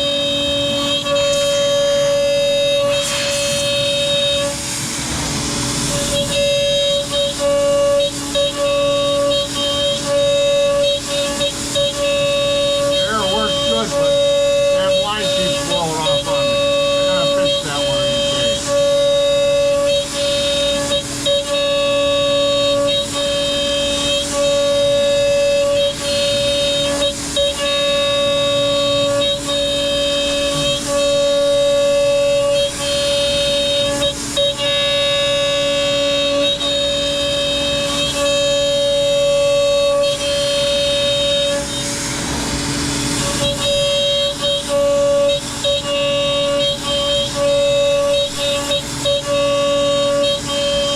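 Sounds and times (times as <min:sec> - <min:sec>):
router spindle whining: 0:00.0 - 0:50.9
vacuum running: 0:00.0 - 0:50.9.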